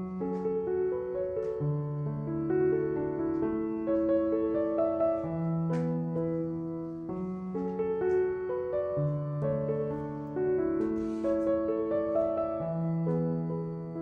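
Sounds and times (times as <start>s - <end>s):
gentle piano music: 0.0s - 14.0s
soft hiss: 0.1s - 13.8s.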